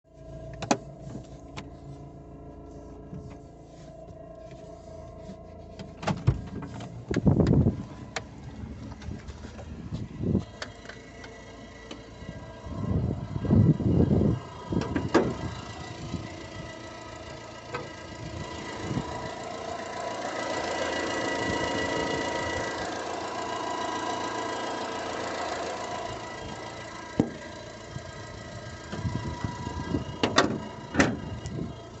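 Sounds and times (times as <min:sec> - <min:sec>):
car engine running: 0:00.0 - 0:32.0
engine clicks and knocks: 0:00.4 - 0:32.0.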